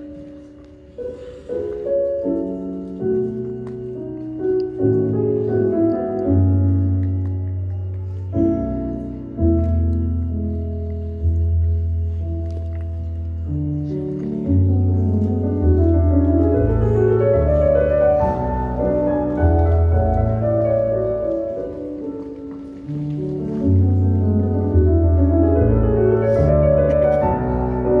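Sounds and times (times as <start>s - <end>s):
instrumental classical music: 0.0s - 28.0s.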